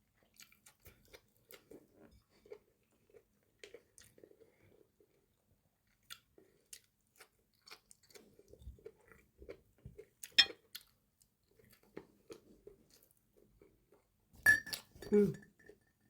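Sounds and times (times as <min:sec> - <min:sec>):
person chewing food: 0:00.0 - 0:14.1.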